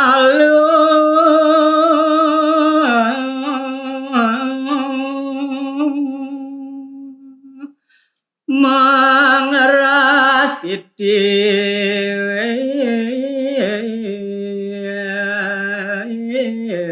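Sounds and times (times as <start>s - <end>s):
solo voice singing held note: 0.0s - 7.7s, 8.5s - 16.9s.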